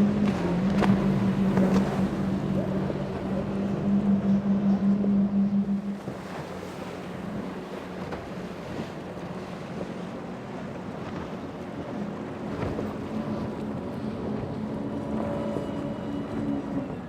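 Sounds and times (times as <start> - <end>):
distant motorboat engine hum: 0.0 - 17.0
waves washing: 0.0 - 17.0.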